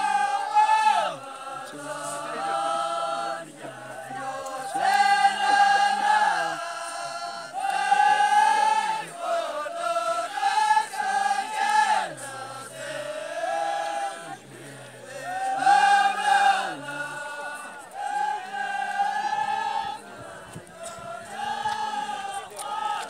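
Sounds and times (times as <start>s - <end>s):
men chanting: 0.0s - 23.0s.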